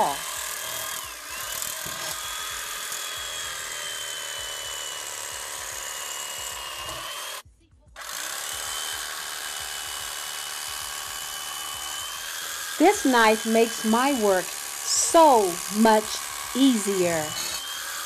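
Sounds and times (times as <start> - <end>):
electric carving knife whining: 0.0 - 7.4, 8.0 - 18.0.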